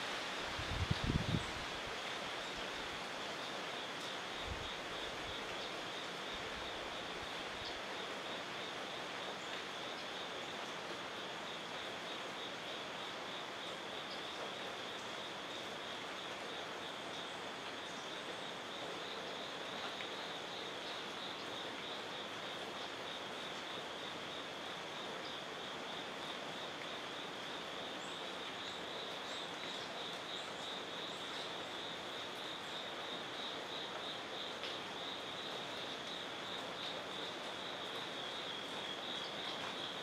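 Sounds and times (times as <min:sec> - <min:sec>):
background hiss: 0:00.0 - 0:40.0
insect trill: 0:00.5 - 0:40.0.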